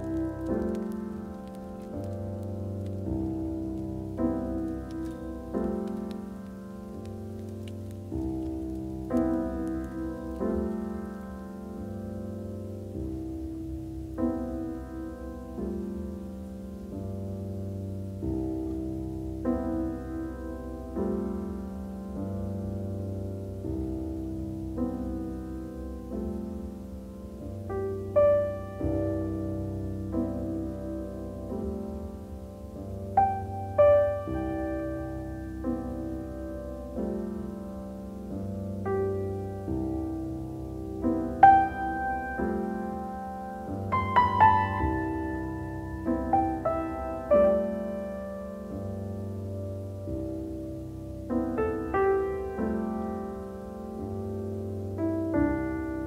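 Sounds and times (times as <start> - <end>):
slow keyboard music: 0.0 - 56.0
slow piano chords: 0.0 - 56.0.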